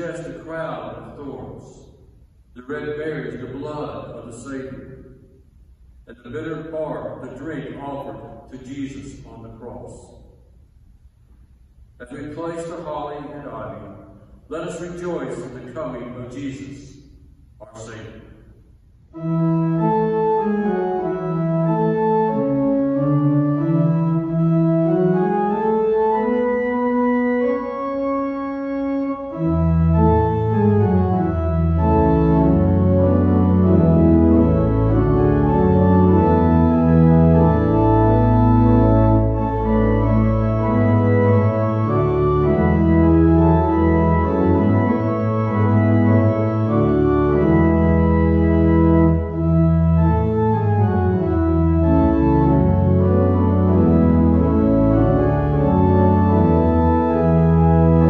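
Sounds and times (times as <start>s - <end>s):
church organ chords: 0.0s - 58.0s
deep organ pedal bass: 0.0s - 58.0s.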